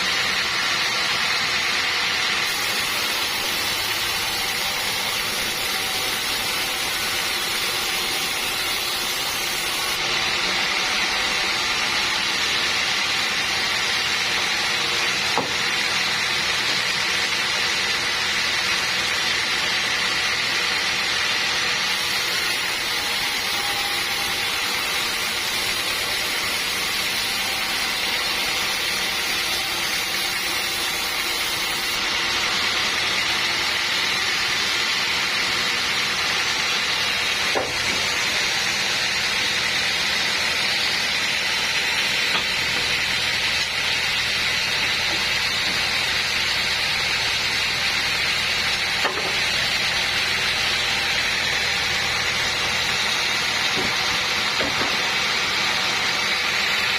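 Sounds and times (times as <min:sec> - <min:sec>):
saw cutting wood with whine: 0:00.0 - 0:56.9.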